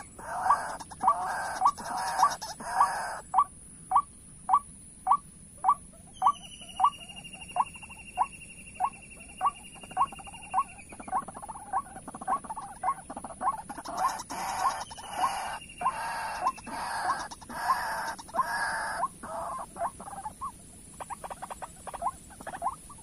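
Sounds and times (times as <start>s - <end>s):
waterhen calls: 0.0s - 23.0s.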